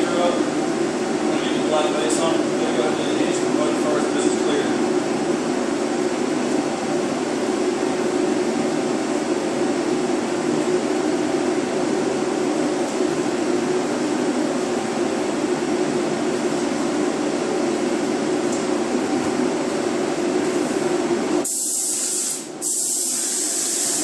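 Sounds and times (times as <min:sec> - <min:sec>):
ventilation fan droning: 0:00.0 - 0:24.0.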